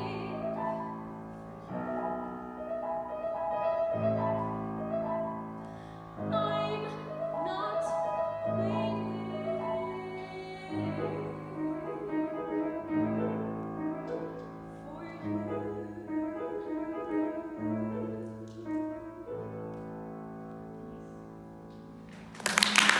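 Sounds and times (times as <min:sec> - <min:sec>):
piano chords: 0:00.0 - 0:22.5.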